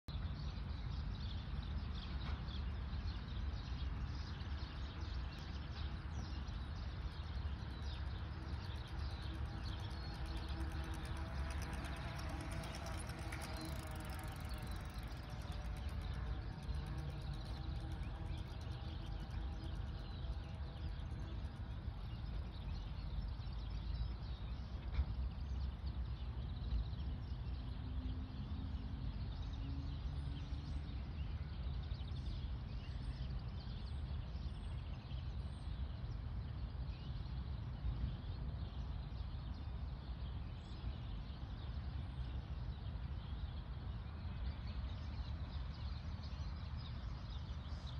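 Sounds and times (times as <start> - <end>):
wind rumble on microphone: 0.1 - 47.9.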